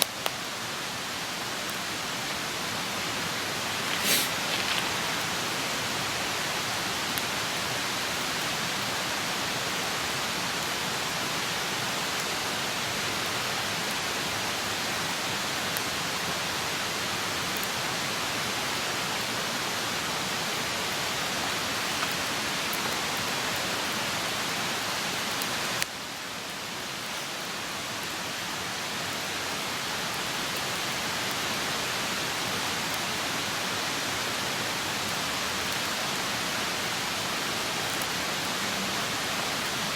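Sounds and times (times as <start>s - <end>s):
campfire hissing: 0.0s - 39.9s
fire crackles: 0.0s - 39.9s.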